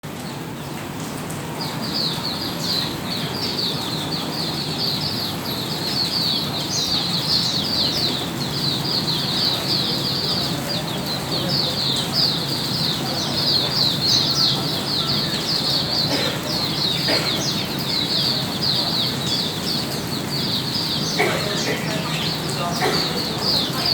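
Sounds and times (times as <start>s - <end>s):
bird singing rapid song: 1.6s - 23.9s.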